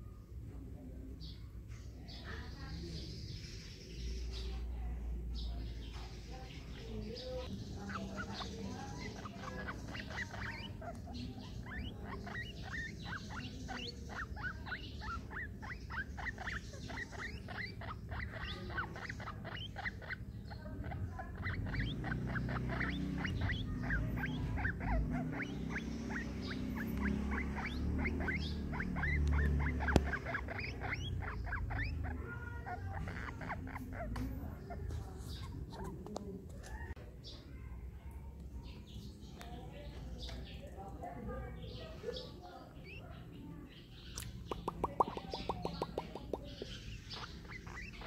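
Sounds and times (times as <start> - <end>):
guinea pig squeaking: 5.4 - 37.6, 38.6 - 48.0.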